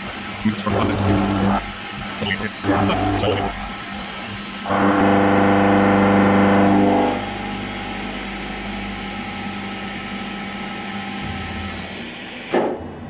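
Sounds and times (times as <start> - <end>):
milling machine cutter whine: 0.0 - 12.5
machine hum: 0.0 - 13.0.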